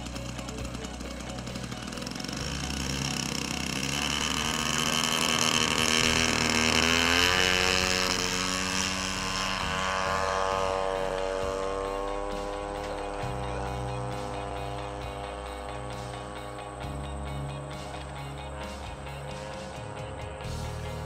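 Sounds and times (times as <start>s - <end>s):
model airplane engine revving: 0.0s - 21.0s.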